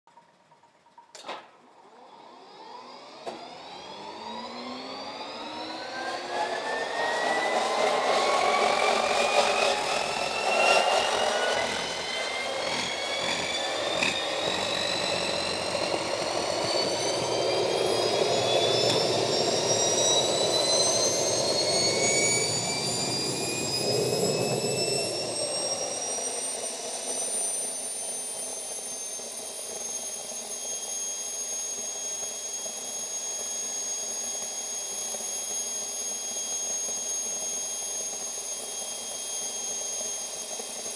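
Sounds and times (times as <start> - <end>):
jet engine whine spooling up: 1.2 - 40.9
jet engine rushing roar: 2.3 - 40.9.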